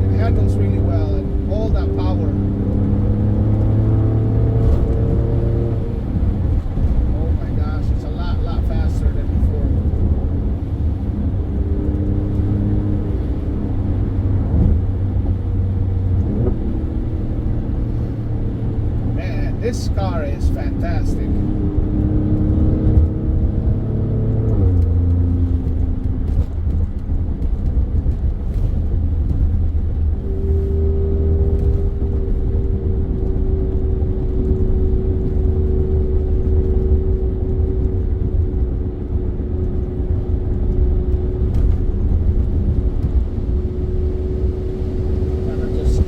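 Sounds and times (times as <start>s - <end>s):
car engine deep rumble: 0.0s - 46.0s.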